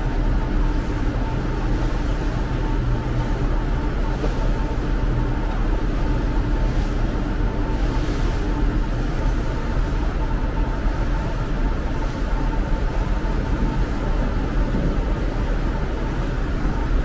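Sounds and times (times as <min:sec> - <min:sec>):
seawater rushing along hull: 0:00.0 - 0:17.0.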